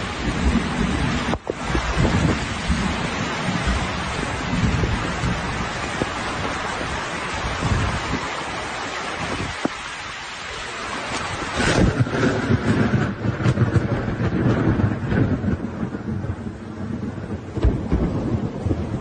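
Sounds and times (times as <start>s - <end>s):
low thunder rumbling: 0.0s - 9.7s, 10.6s - 19.0s
heavy rain: 0.0s - 19.0s
wind buffeting microphone: 0.0s - 19.0s.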